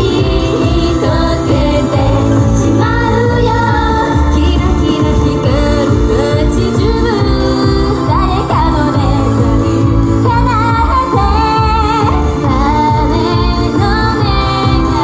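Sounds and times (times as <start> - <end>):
pop music with steady beat: 0.0 - 15.0
women singing: 0.0 - 15.0.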